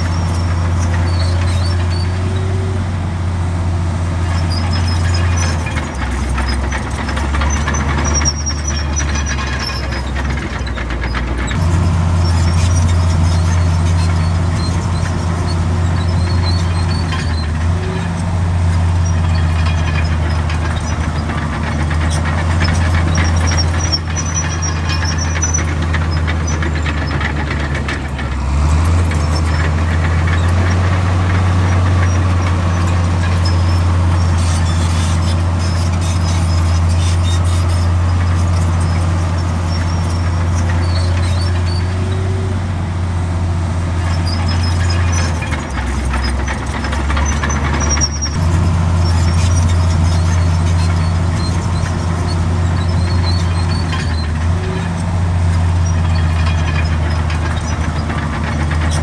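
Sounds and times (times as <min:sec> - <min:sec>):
faint high squeaks: 0:00.0 - 0:02.7, 0:04.2 - 0:42.5, 0:44.0 - 0:59.0
diesel machinery engine hum: 0:00.0 - 0:59.0.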